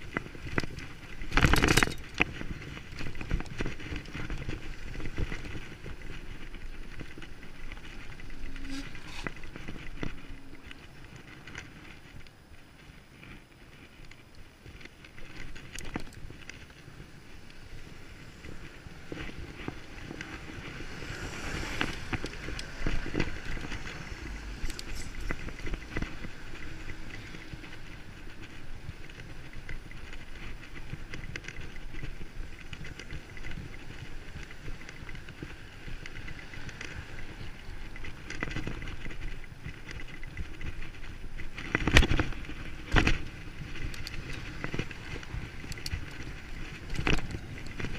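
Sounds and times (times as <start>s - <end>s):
bicycle rolling with rattles: 0.0s - 47.9s.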